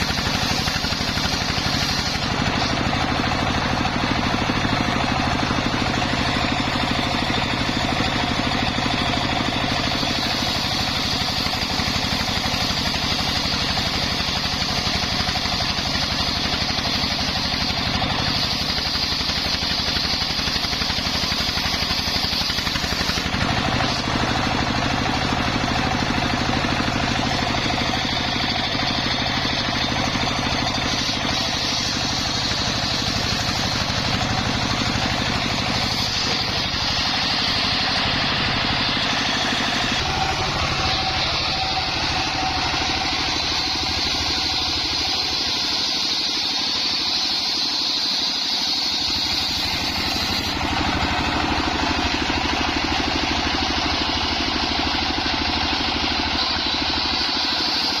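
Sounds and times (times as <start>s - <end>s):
saw blade cutting log hiss: 0.0s - 58.0s
saw engine running: 0.0s - 58.0s.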